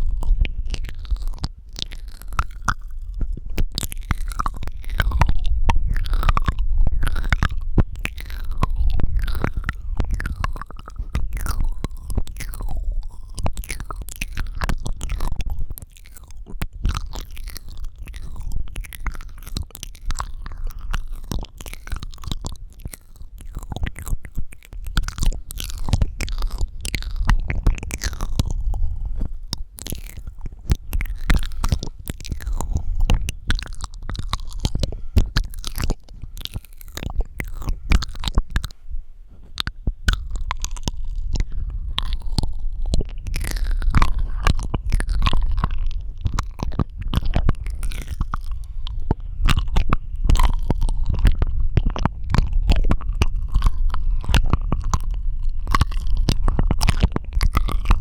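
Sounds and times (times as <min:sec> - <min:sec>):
wet mouth clicks and smacks: 0:00.0 - 0:58.0.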